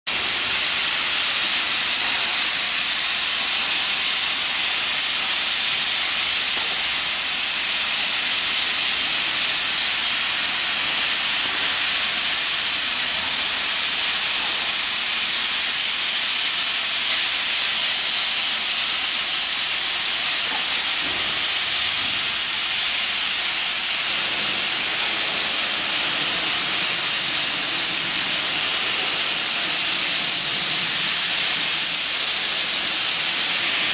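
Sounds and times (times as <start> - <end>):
sandblaster hissing: 0.1 - 33.9.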